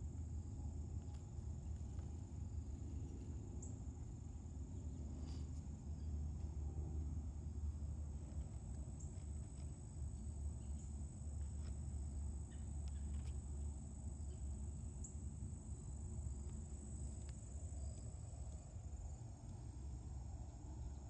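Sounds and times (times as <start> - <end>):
crickets trilling: 0.1 - 21.0.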